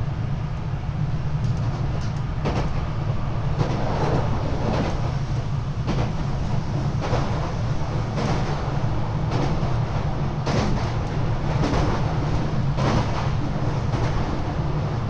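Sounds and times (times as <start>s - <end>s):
wheel and rail noise: 1.4s - 15.0s.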